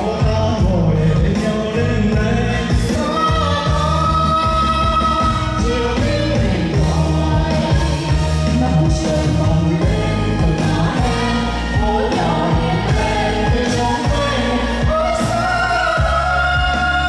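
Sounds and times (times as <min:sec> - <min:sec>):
person singing: 0:00.0 - 0:17.0
pop band with bass beat: 0:00.0 - 0:17.0.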